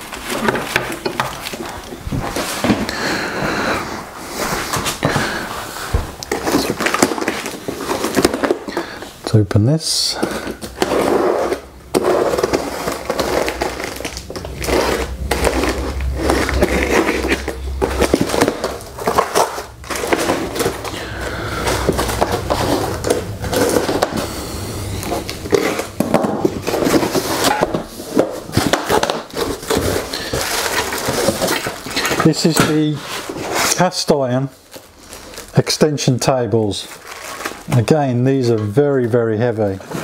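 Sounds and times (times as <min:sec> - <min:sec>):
cardboard flaps scraping: 0:00.0 - 0:09.1, 0:10.2 - 0:35.8
plastic wrapping crinkling: 0:00.0 - 0:40.0.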